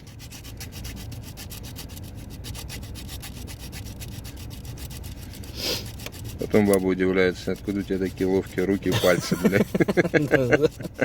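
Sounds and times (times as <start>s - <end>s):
rapid back-and-forth scraping: 0.0s - 11.0s.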